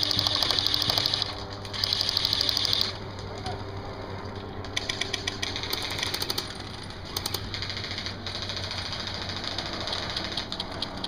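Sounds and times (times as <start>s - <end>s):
airsoft guns firing bursts: 0.0s - 3.2s, 4.7s - 11.0s
steady low hum: 0.0s - 11.0s.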